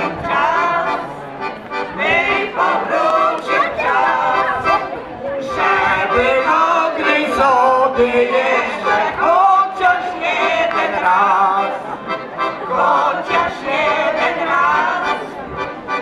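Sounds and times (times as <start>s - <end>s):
accordion: 0.0s - 16.0s
group singing folk song: 0.0s - 16.0s.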